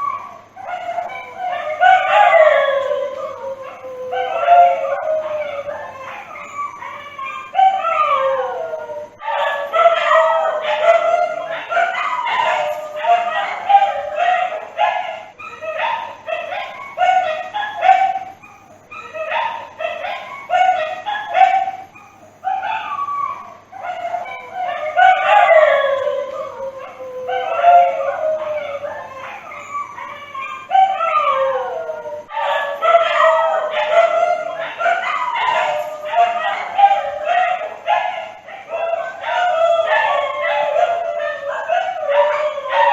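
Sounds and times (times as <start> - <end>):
dog howling and yelping: 0.0 - 42.9.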